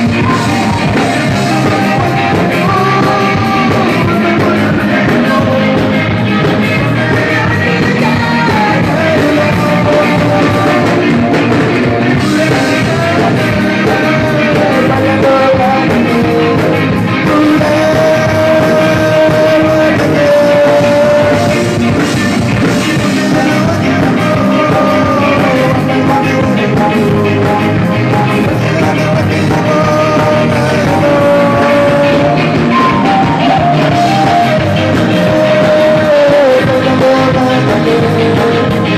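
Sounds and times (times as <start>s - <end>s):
live band playing amplified music: 0.0s - 38.9s
man singing into a microphone: 0.0s - 38.9s.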